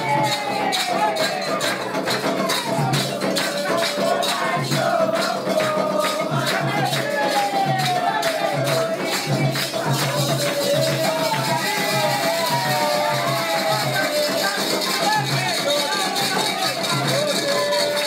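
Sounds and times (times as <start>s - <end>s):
drums: 0.0s - 18.0s
shaken rattles: 0.0s - 18.0s
voices singing: 0.0s - 18.0s.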